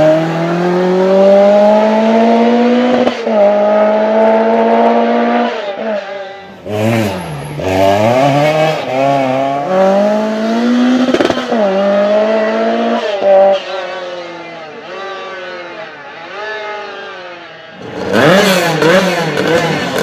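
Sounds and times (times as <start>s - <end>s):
car engine revving hard: 0.0s - 5.9s, 6.6s - 20.0s.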